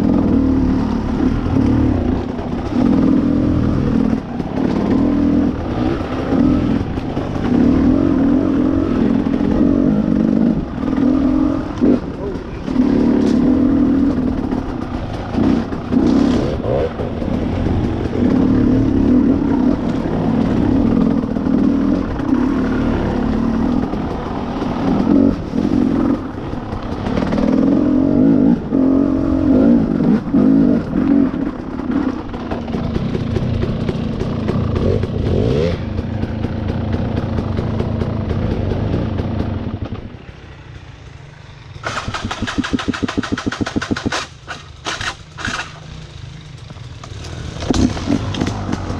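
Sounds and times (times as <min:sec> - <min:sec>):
dirt bike engine revving: 0:00.0 - 0:39.8, 0:41.8 - 0:48.9.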